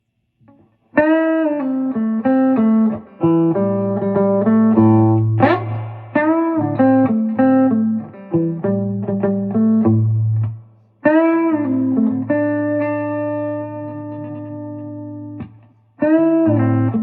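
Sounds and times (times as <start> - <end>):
electric guitar blues lick: 1.0 - 17.0.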